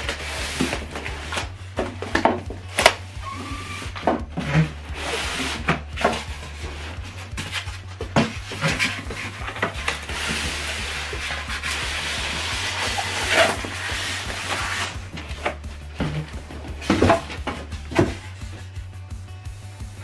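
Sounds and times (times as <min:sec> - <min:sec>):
cardboard and foam rubbing: 0:00.0 - 0:02.6, 0:03.2 - 0:18.7.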